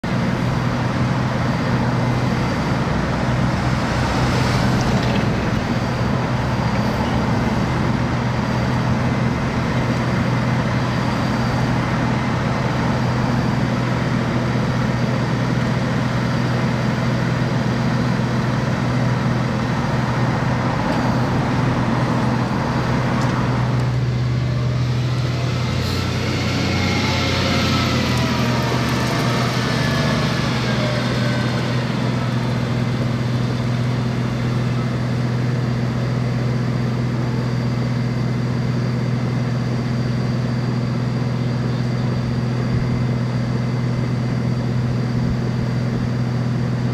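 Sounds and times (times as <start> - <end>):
heavy diesel machinery drone: 0.0 - 46.9.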